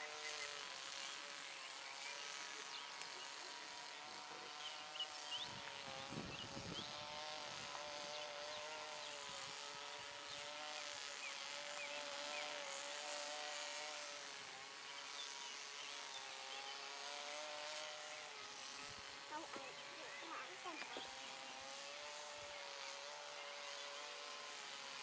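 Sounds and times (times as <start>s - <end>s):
model plane engine droning: 0.0s - 25.0s.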